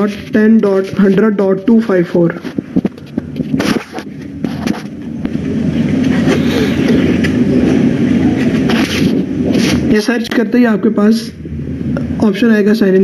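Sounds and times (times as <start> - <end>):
loud rumbling: 0.0 - 13.0.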